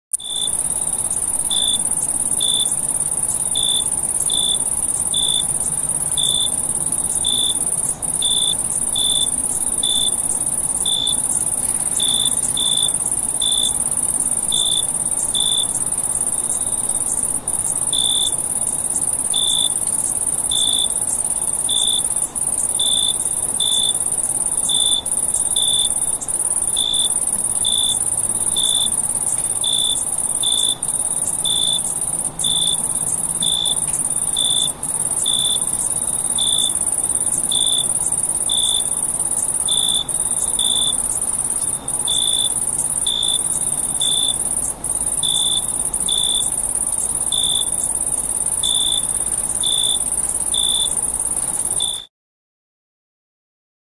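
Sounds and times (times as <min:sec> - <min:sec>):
crickets trilling: 0:00.2 - 0:52.1
lower cricket chirp: 0:00.2 - 0:52.1.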